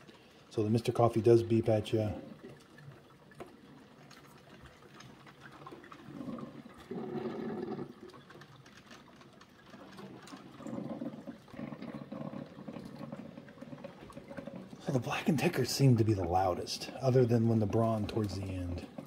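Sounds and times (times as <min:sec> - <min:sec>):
coffee maker gurgling: 0:00.0 - 0:19.0.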